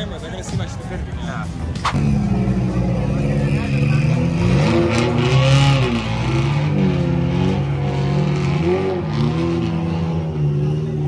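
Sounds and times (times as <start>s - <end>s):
car engine revving: 1.7s - 11.0s.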